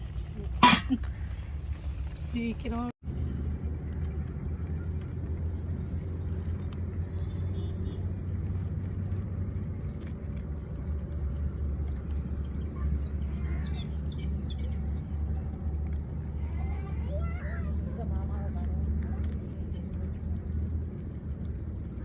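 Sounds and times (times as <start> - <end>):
birds chirping: 2.3 - 22.0.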